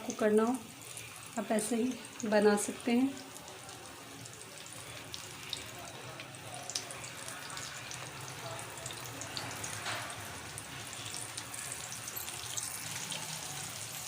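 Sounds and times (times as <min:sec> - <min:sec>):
oil sizzling and popping: 0:00.0 - 0:14.0.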